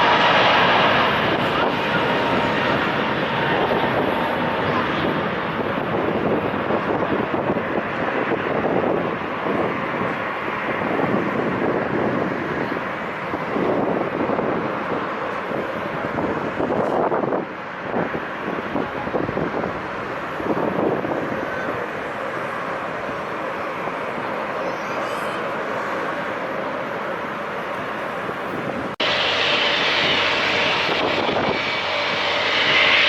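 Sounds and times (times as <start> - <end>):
jet engines roaring: 0.0 - 33.0
wind gusting on microphone: 0.0 - 33.0.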